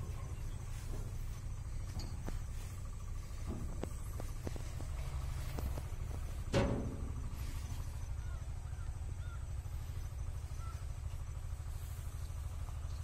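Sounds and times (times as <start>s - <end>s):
faint bird chirps: 0.0s - 13.0s
low rumble: 0.0s - 13.0s.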